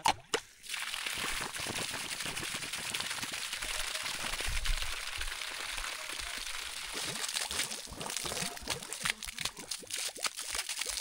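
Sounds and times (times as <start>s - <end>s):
water gushing onto soil: 0.4s - 11.0s.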